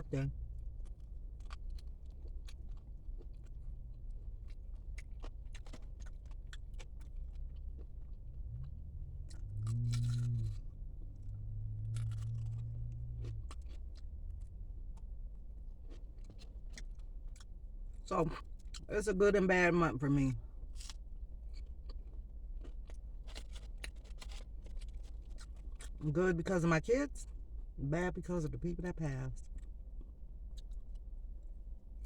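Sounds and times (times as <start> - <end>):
chewing and crunching food: 0.0 - 32.0
low steady hum: 0.0 - 32.0.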